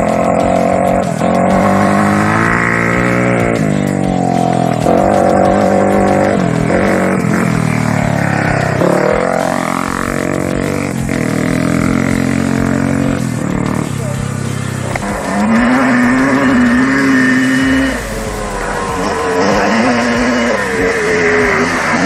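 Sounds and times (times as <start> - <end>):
race vehicle engines running: 0.0 - 22.0.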